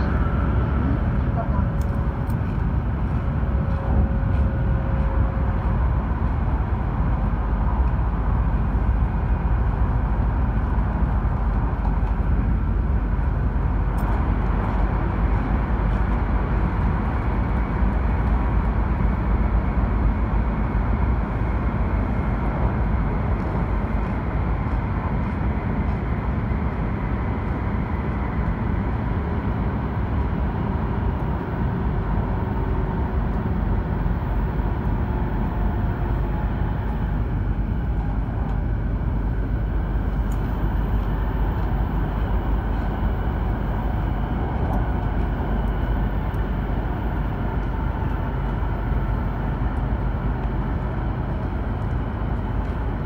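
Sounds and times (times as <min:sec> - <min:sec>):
faint whine: 0:00.0 - 0:53.0
train wheels and air rumbling: 0:00.0 - 0:53.0.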